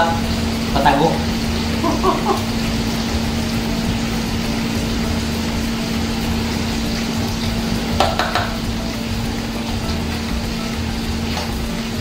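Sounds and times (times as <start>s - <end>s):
gas burner hiss: 0.0s - 12.0s
liquid pouring into a pot: 0.0s - 12.0s.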